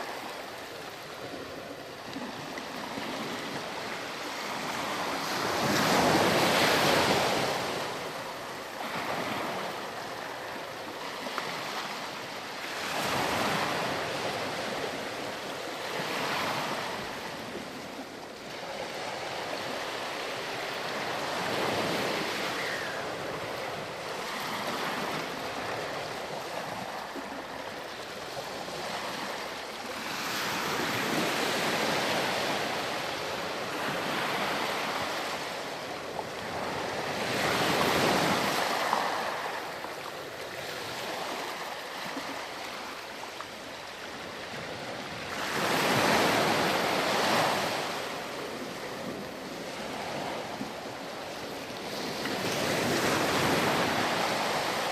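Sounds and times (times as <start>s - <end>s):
surf breaking on a beach: 0.0s - 54.9s.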